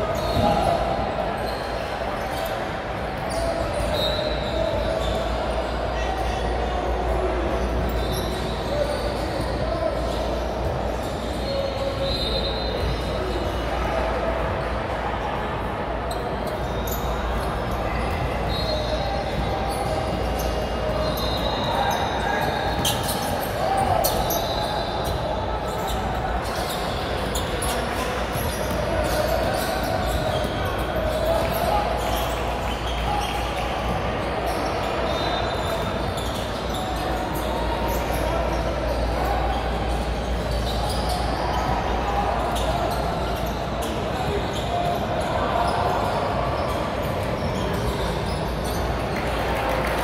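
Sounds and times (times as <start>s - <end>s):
sneaker squeaks: 0.0s - 15.0s, 16.0s - 50.0s
crowd voices: 0.0s - 50.0s.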